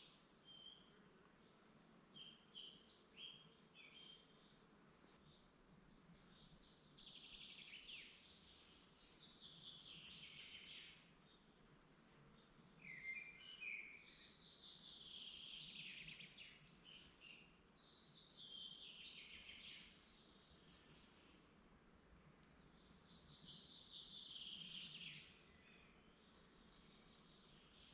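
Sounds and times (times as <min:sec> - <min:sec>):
low background hiss: 0:00.0 - 0:27.9.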